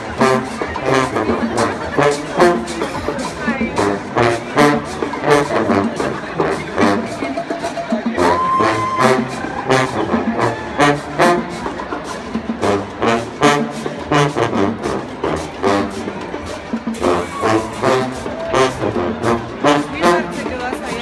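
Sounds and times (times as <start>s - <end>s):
brass instruments playing a tune: 0.0s - 21.0s
drums beating: 0.0s - 21.0s.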